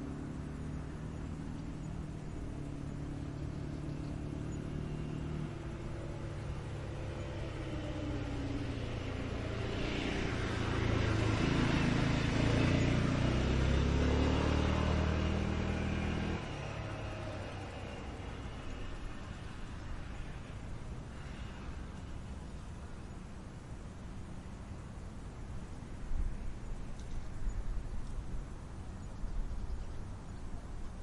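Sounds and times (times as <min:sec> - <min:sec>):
vehicle engine passing by: 0:00.0 - 0:31.0.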